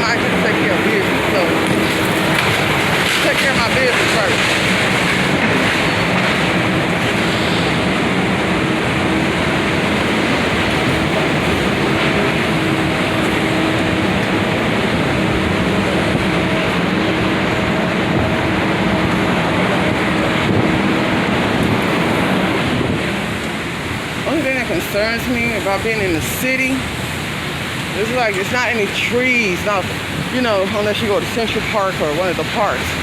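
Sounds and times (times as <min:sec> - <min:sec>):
wind buffeting microphone: 0:00.0 - 0:31.9
street traffic: 0:00.0 - 0:33.0.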